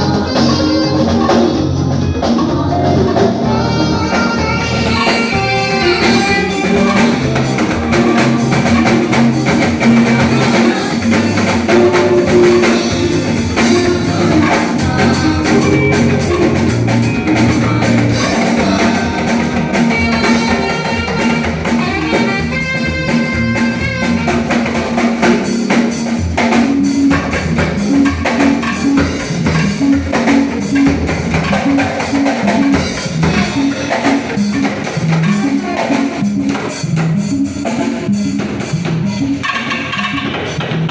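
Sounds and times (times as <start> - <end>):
steady bass line: 0.0 - 39.4
drum kit: 0.0 - 40.9
live band playing: 0.0 - 40.9.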